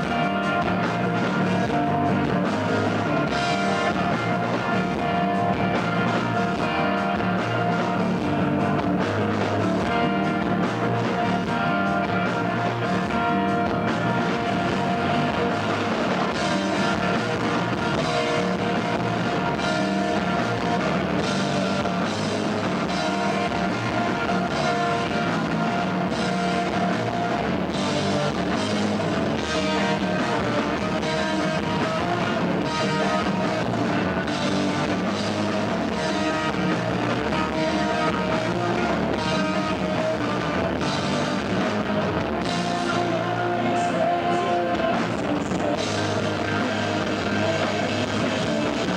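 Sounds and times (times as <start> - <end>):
bass guitar: 0.0 - 48.9
drum kit: 0.0 - 48.9
electric guitars: 0.0 - 48.9.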